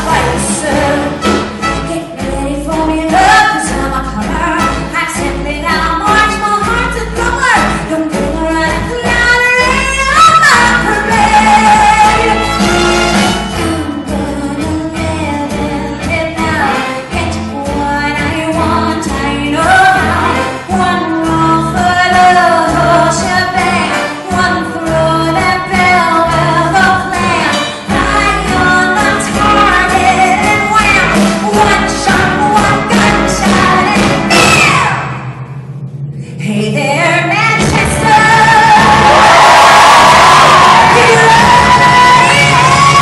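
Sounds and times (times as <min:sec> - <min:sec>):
woman singing a show tune: 0:00.0 - 0:12.6, 0:13.6 - 0:35.0, 0:36.3 - 0:39.0, 0:40.9 - 0:43.0
full band playing: 0:00.0 - 0:36.2, 0:37.0 - 0:43.0.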